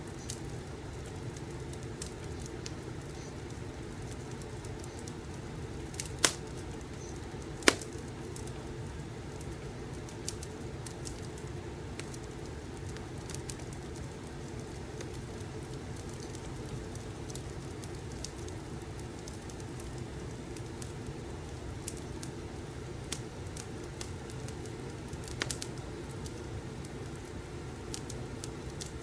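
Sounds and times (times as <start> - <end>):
fireplace crackling: 0.0 - 29.0.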